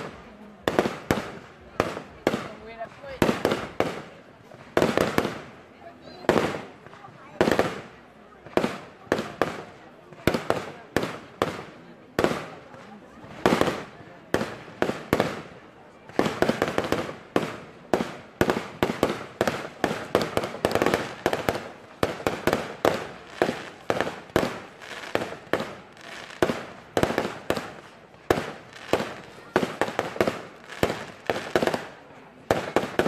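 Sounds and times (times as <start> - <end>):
fireworks bursting with sharp bangs: 0.0 - 33.0.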